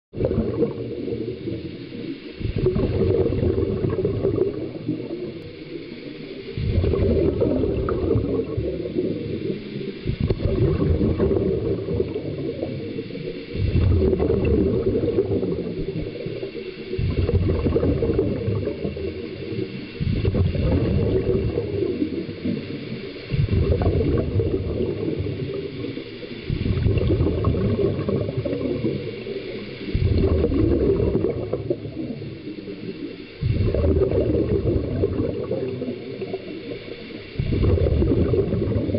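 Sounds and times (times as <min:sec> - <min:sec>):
scuba regulator bubbling: 0:00.1 - 0:38.9.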